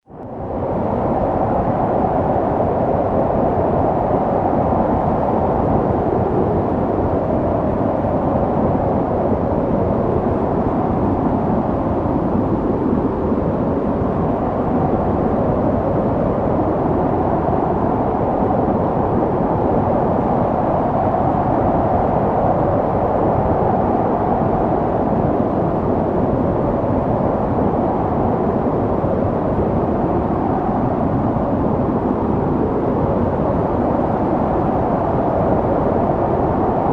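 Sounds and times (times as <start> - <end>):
snowstorm wind blowing: 0.1 - 36.9.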